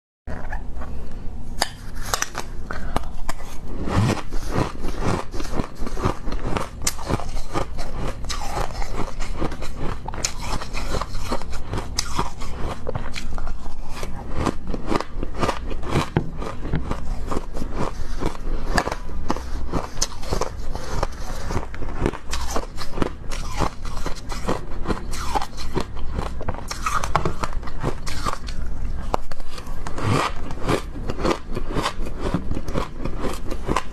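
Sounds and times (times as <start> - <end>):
ice crunching between teeth: 2.0 - 33.9.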